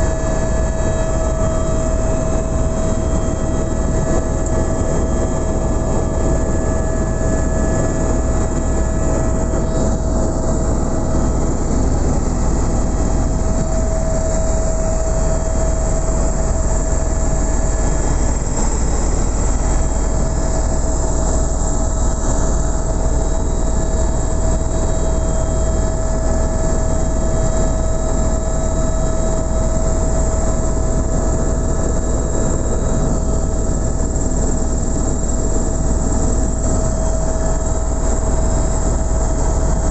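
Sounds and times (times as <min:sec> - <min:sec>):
helicopter rotor and engine rumble: 0:00.0 - 0:39.9
helicopter whine: 0:00.0 - 0:39.9.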